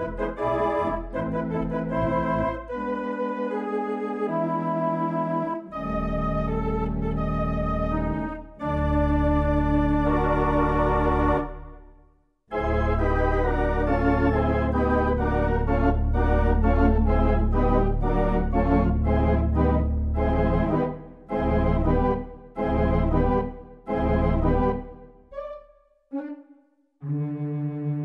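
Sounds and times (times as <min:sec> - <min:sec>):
organ chords: 0:00.0 - 0:11.9, 0:12.5 - 0:25.6.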